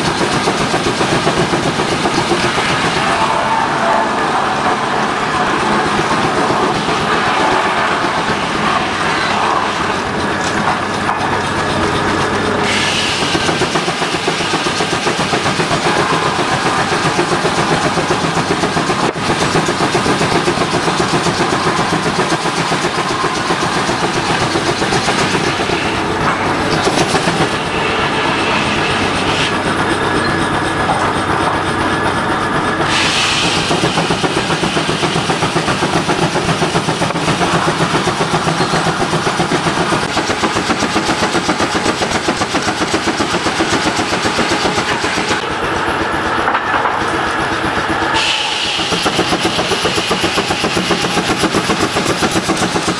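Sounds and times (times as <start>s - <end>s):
high steam hiss: 0.0s - 52.9s
steam engine exhaust chuffing: 0.0s - 52.9s.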